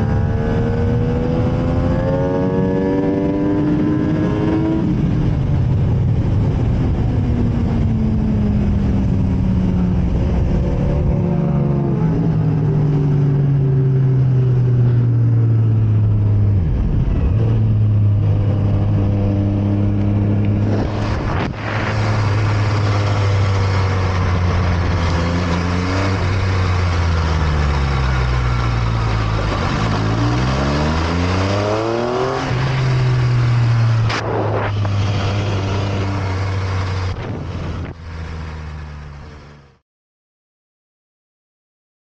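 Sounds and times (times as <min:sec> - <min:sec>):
motorcycle engine revving: 0:00.0 - 0:39.8.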